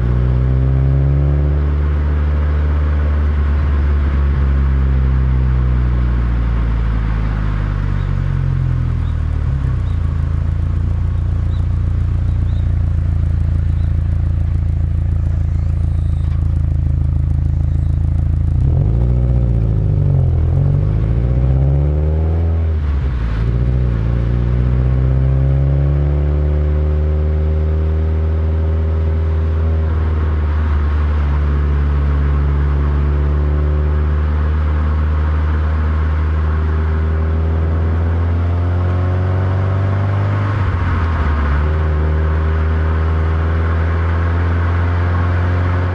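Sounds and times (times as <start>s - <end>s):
car engine and exhaust driving: 0.0s - 45.9s.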